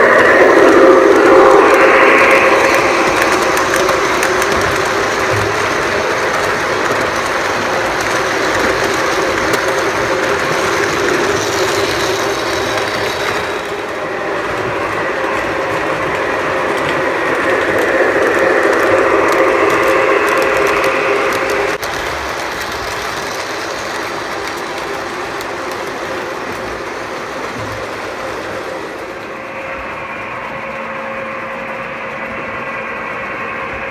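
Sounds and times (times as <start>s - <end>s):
electric motor hum: 0.0s - 28.9s
wheels rattling over rails: 0.0s - 33.9s.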